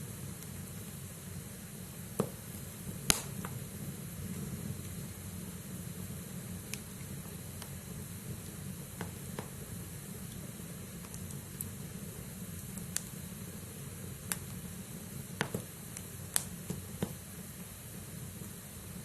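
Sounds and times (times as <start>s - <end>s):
burning wood crackling and popping: 0.0s - 19.0s
low rush of flames: 0.0s - 19.0s.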